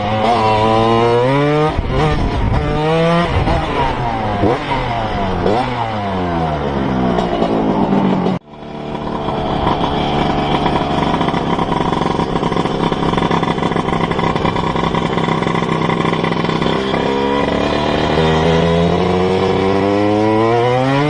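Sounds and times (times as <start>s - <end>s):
two-stroke scooter engine revving: 0.0s - 21.0s.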